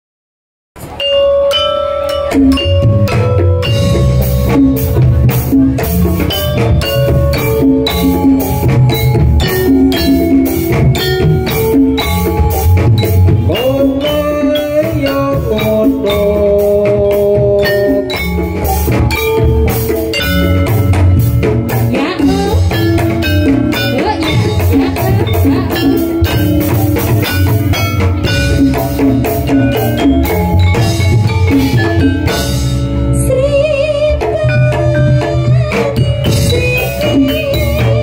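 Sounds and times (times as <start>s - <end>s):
metallophone melody: 0.8s - 38.0s
dense drumming: 2.5s - 33.4s.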